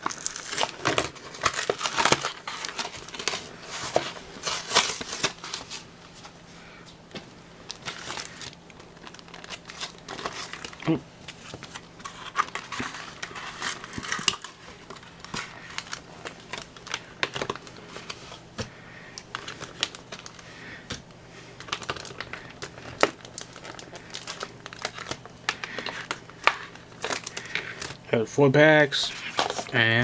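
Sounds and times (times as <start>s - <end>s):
plastic wrapping crinkling and tearing: 0.0s - 6.3s, 7.7s - 18.4s, 19.2s - 28.0s, 28.9s - 30.0s.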